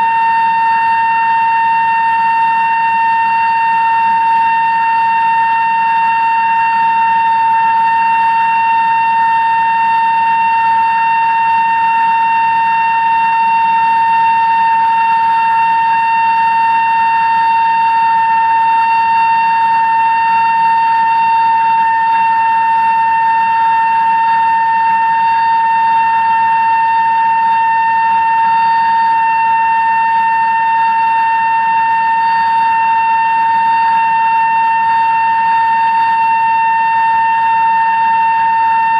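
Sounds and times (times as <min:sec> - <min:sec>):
machine drilling steel whine: 0:00.0 - 0:38.9.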